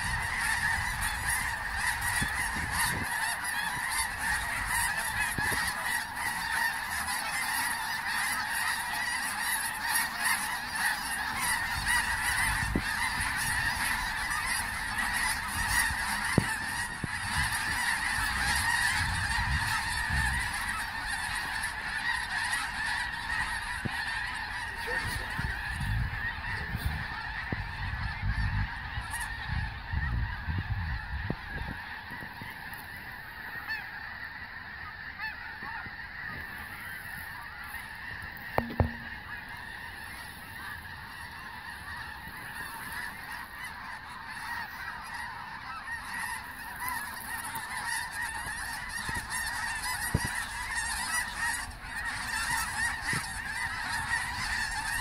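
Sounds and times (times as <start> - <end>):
geese honking: 0.0 - 55.0
wind rumbling on microphone: 0.0 - 55.0.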